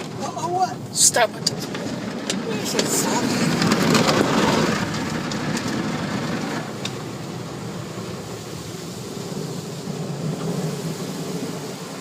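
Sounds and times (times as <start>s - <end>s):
car wash rushing noise: 0.0s - 12.0s.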